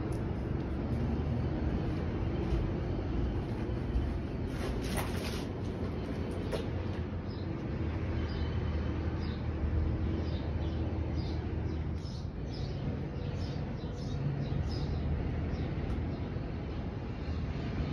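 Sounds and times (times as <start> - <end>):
low mechanical city rumble: 0.0 - 17.9.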